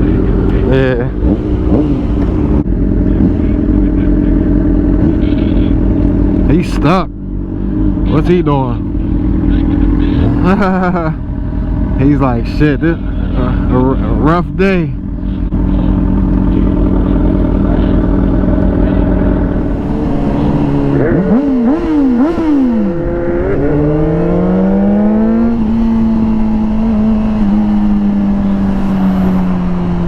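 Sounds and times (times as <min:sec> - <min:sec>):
low rumble of wind: 0:00.0 - 0:30.0
motorcycle engine revving: 0:00.0 - 0:30.0.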